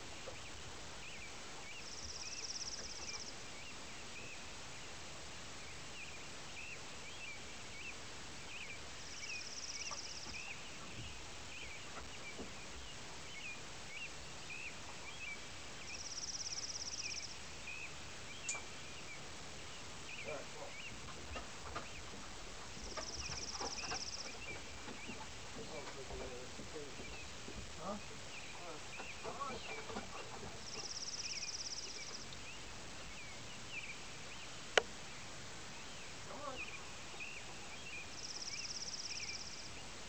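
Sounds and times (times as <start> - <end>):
birds chirping: 0.0 - 40.0
outdoor background noise: 0.0 - 40.0.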